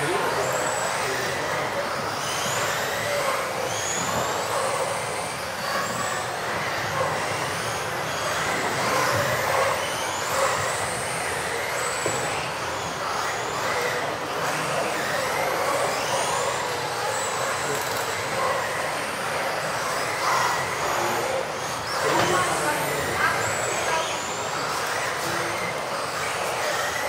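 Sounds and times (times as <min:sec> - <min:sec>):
rc car motors whining: 0:00.0 - 0:27.0
steady hall noise: 0:00.0 - 0:27.0.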